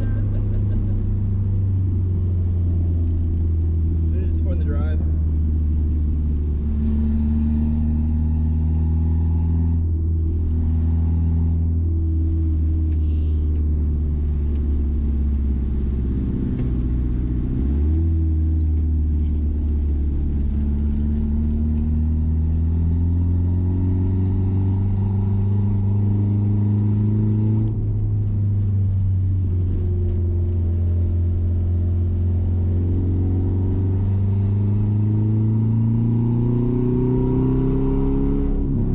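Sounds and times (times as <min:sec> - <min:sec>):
pickup engine and loud exhaust: 0:00.0 - 0:38.9.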